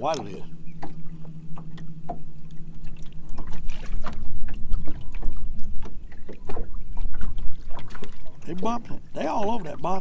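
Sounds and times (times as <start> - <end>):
low wind rumble: 0.0 - 10.0
steady motor hum: 0.0 - 10.0
water slapping against boat hull: 0.0 - 10.0.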